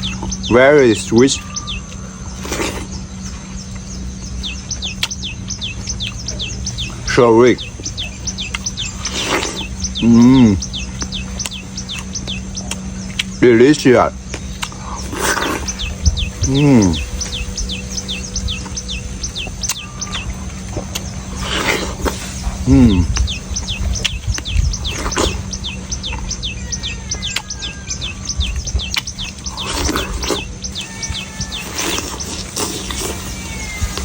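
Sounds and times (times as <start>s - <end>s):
small bird chirping rapidly: 0.0s - 34.0s
steady low hum: 0.0s - 34.0s.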